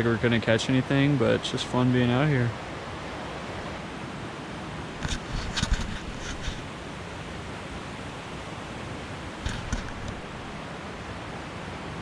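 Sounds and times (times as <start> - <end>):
stream water rushing: 0.1 - 12.0.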